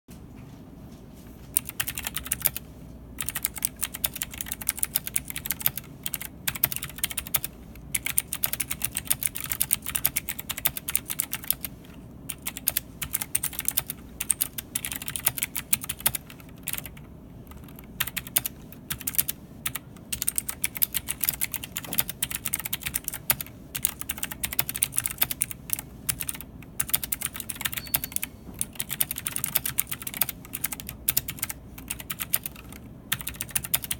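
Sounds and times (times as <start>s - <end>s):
mechanical keyboard clicks: 1.6s - 2.6s, 3.2s - 11.7s, 12.3s - 33.9s.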